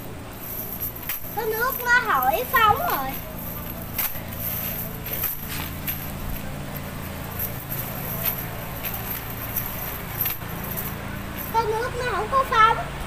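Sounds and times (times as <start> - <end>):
metal chain weights clinking: 0.0 - 11.7
steady low hum: 0.0 - 13.0.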